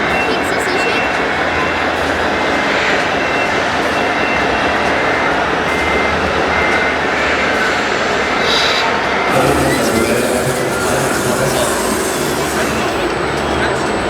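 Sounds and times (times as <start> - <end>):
model trucks running: 0.0 - 14.0.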